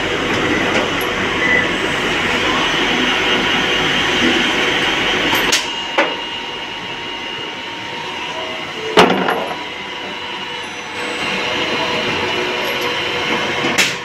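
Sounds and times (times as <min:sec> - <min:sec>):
drilling machine hum and whine: 0:00.0 - 0:14.0.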